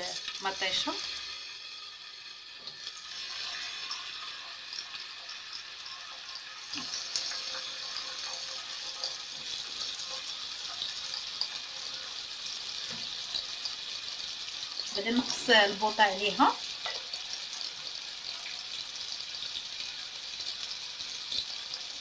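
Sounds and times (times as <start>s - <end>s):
tomato slices sizzling in oil: 0.0s - 22.0s.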